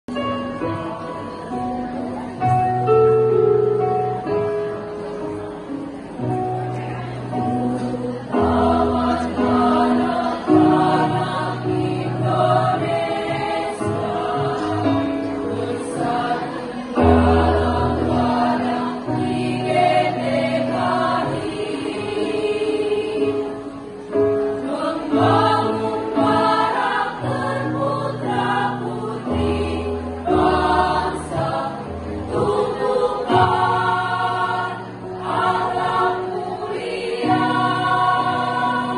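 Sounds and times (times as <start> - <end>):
women's choir singing: 0.1 - 1.8, 6.8 - 38.9.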